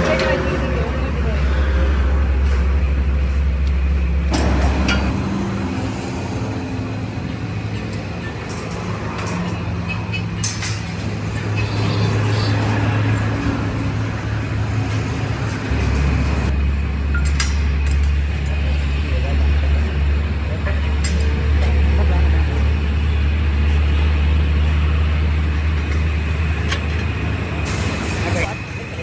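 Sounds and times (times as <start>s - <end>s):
low machine drone: 0.0s - 29.0s.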